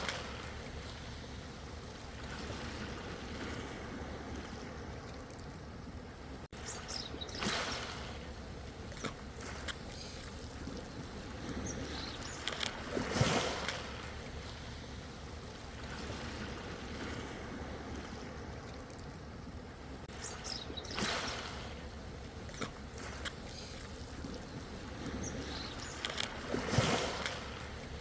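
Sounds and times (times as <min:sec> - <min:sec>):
ocean waves washing in: 0:00.0 - 0:28.0
wave splashes: 0:00.0 - 0:28.0.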